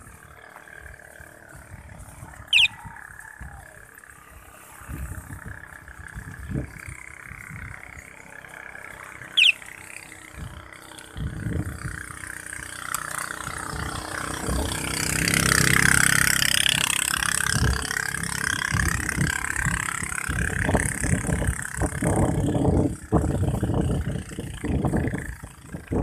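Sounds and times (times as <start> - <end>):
motorcycle passing by: 0.0 - 26.0.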